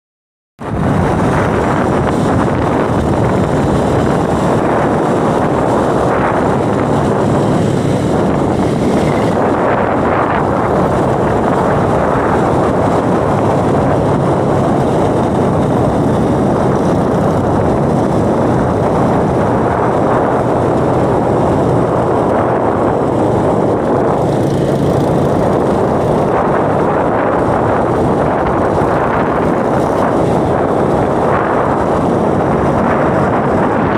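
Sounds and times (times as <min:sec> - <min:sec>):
wind rushing on microphone: 0:00.6 - 0:33.9.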